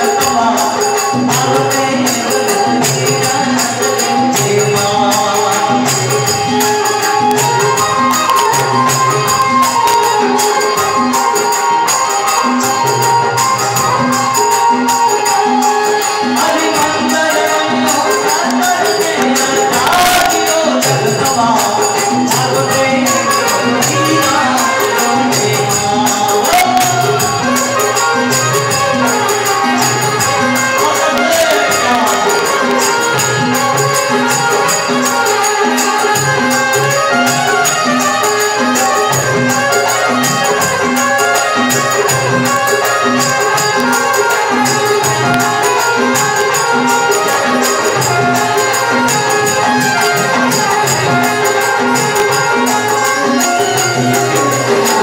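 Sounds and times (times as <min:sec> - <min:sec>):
dholak beat: 0:00.0 - 0:55.0
harmonium and keyboard melody: 0:00.0 - 0:55.0
jingling hand percussion: 0:00.0 - 0:55.0.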